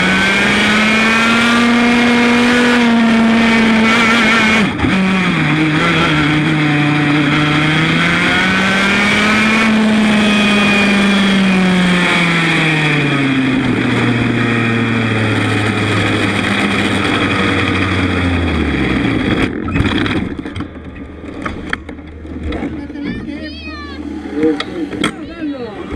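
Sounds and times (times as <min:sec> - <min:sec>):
kart two-stroke engine running: 0:00.0 - 0:25.9.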